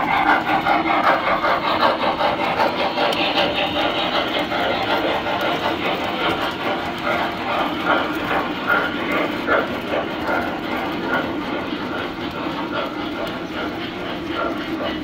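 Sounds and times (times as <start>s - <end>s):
model train wheels rumbling on track: 0.0s - 15.0s.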